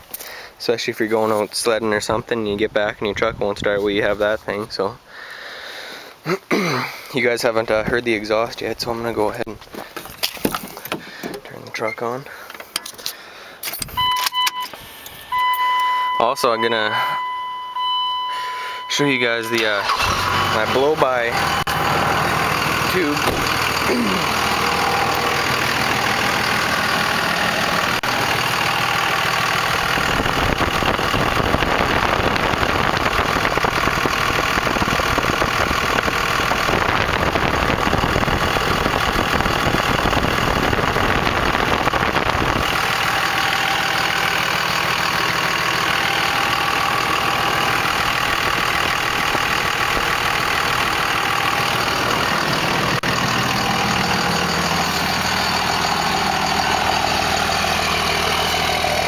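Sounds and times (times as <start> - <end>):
diesel engine idling with clatter: 0.0 - 59.0.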